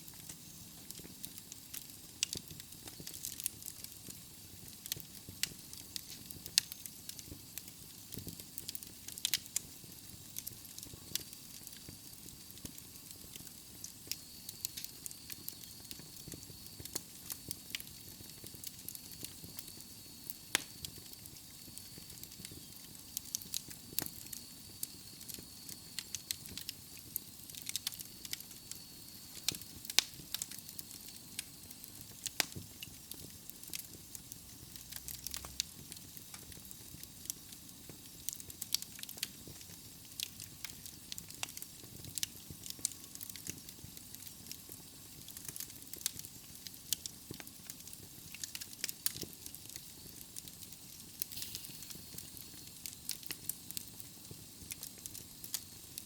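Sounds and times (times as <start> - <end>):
soft steady hiss: 0.0 - 56.0
fireplace logs crackling: 0.2 - 55.8.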